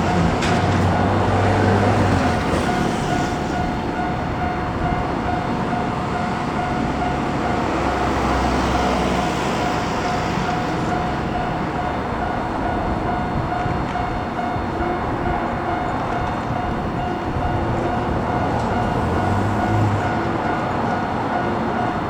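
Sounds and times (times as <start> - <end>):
railway crossing alarm ringing: 0.0 - 22.0.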